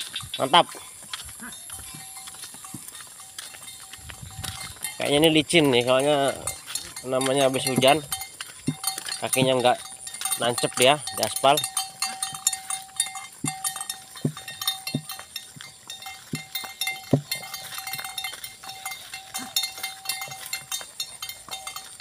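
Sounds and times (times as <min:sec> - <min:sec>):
cart rattling ticks: 0:00.0 - 0:22.0
hooves clacking on wet asphalt: 0:00.0 - 0:22.0
steady ringing tone: 0:01.1 - 0:22.0.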